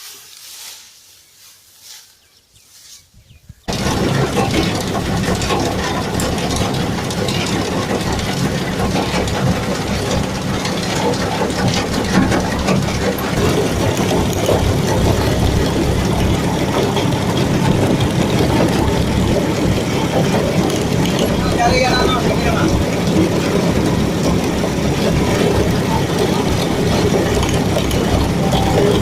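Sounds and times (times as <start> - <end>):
combine harvester running: 3.7 - 29.0.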